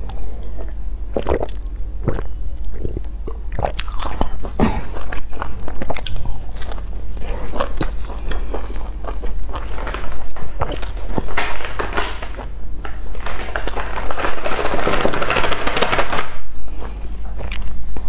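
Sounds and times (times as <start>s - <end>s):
chewing crunchy flatbread: 0.0s - 18.0s.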